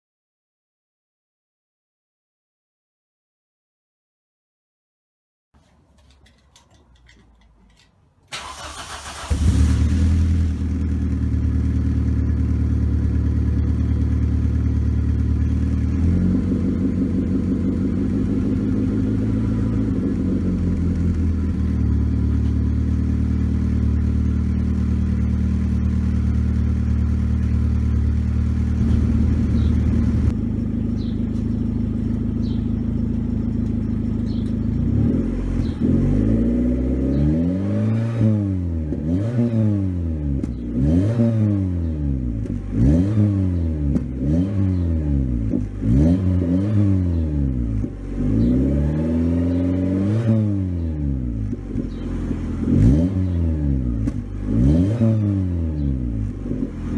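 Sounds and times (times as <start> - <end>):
car engine idling and revving: 6.0 - 56.9.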